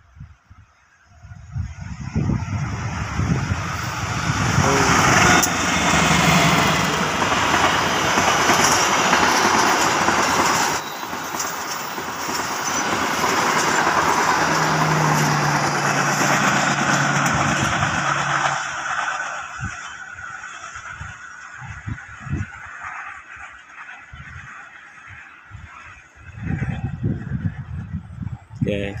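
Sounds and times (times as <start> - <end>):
wheels rushing on rail: 1.0 - 28.6
train passing at speed: 1.1 - 28.6.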